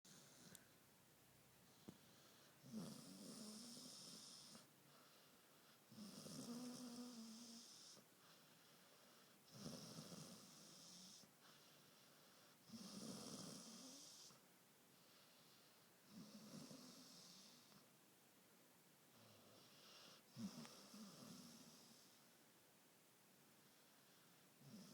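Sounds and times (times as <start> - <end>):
dog snoring softly: 1.7 - 14.4, 15.0 - 17.9, 19.1 - 22.3, 23.6 - 24.9.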